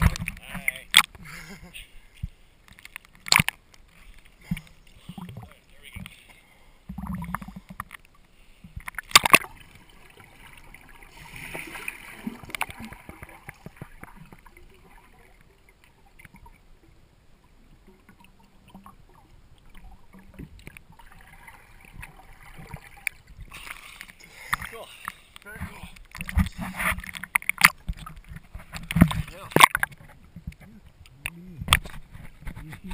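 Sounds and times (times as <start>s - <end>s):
muffled underwater wash: 0.0s - 32.9s
water splashing: 0.0s - 32.9s
faint bubbling: 3.3s - 32.9s.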